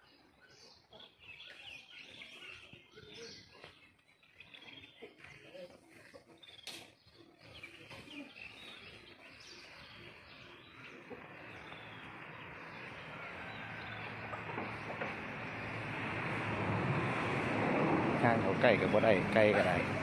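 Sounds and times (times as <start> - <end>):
birds chirping faintly: 0.0 - 17.2.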